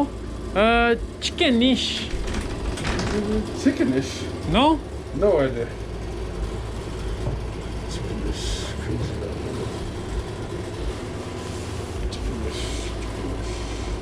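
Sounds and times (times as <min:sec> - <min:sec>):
city background rumble: 0:00.0 - 0:14.0.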